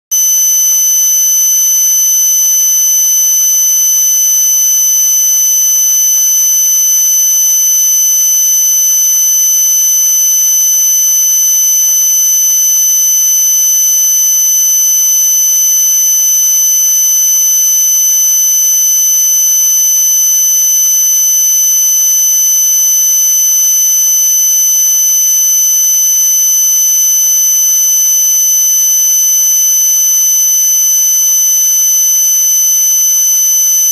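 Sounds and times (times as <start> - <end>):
high-pitched buzzer tone: 0.1 - 33.9.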